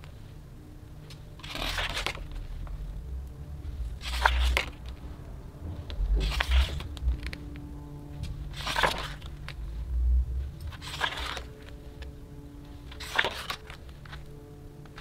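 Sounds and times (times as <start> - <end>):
book pages turning: 1.1 - 2.8, 3.7 - 9.7, 10.4 - 15.0.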